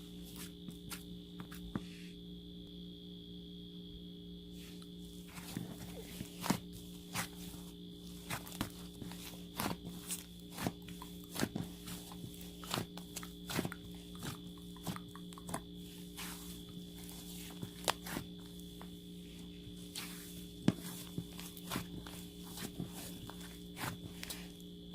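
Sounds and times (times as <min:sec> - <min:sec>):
steady hum: 0:00.0 - 0:24.9.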